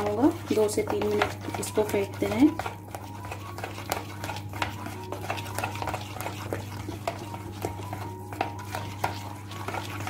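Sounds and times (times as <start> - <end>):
spoon beating wet batter: 0.0 - 10.0.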